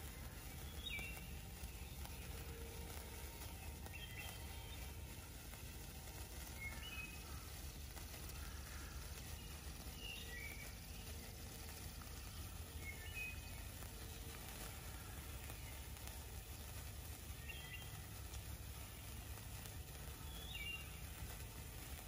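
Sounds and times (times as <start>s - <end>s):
bird chirps: 0.0s - 5.2s, 6.4s - 16.2s, 17.3s - 21.6s.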